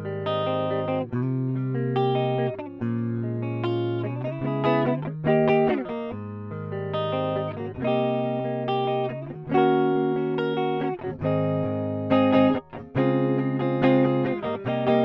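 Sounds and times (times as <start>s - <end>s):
clean electric guitar chords: 0.0s - 15.0s.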